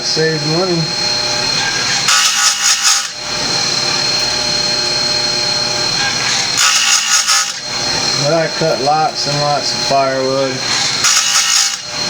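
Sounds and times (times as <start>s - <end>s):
chain sharpener motor whine: 0.0s - 12.0s
grinding wheel on cutter: 0.0s - 12.0s.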